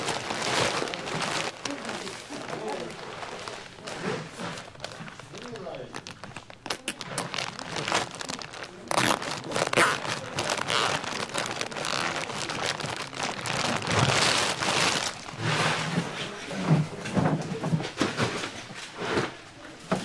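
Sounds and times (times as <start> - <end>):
plastic bag crinkling: 0.0 - 16.5.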